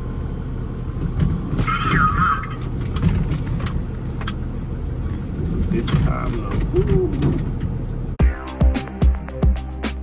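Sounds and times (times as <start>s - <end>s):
truck engine rumbling: 0.0s - 10.0s.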